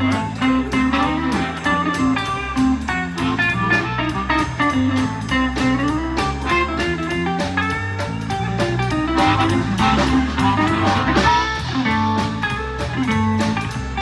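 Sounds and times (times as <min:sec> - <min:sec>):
bass line: 0:00.0 - 0:14.0
blues guitar: 0:00.0 - 0:14.0
steady drum beat: 0:00.0 - 0:14.0.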